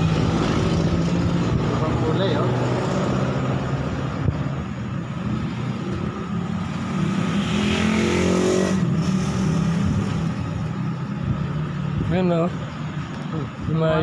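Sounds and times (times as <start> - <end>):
vehicle passing by: 0.0 - 4.6, 5.2 - 12.0.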